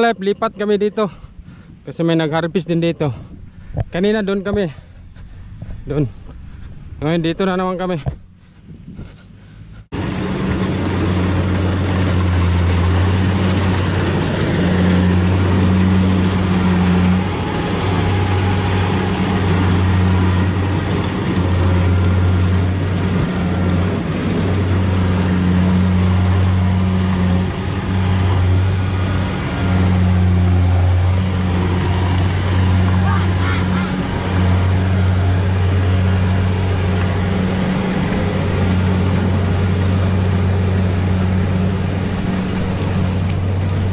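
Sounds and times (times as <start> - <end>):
combine harvester engine drone: 0.0 - 43.9.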